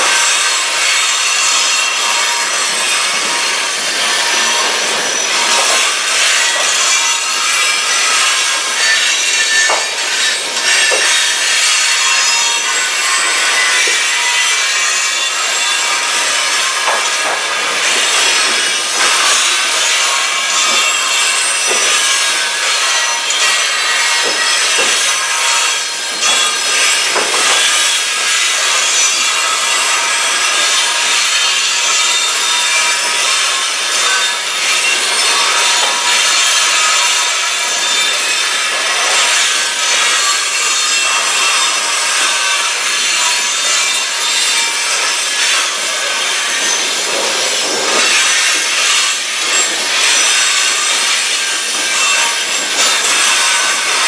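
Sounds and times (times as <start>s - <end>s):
train wheels grinding on rails: 0.0s - 54.0s.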